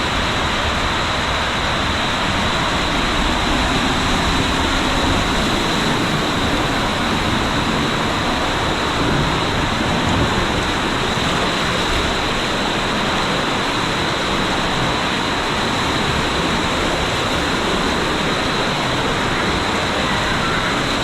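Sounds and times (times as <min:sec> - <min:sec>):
water rushing along a waterslide: 0:00.0 - 0:21.0.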